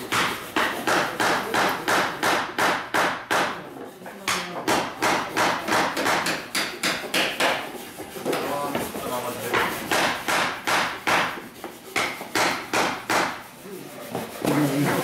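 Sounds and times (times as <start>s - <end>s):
hammer knocking on wood: 0.0s - 3.6s, 4.3s - 13.4s.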